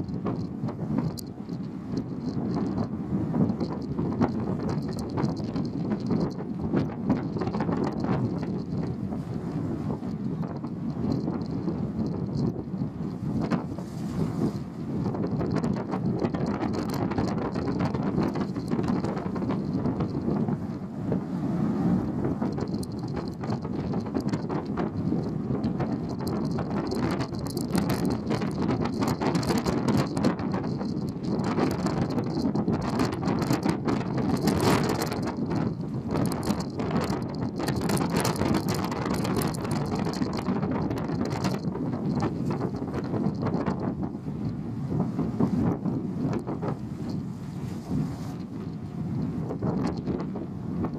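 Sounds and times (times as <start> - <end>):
ship low rumble: 0.0 - 50.9
wind buffeting microphone: 0.0 - 50.9
rushing crackle: 3.5 - 20.7, 22.3 - 44.6, 46.3 - 50.3.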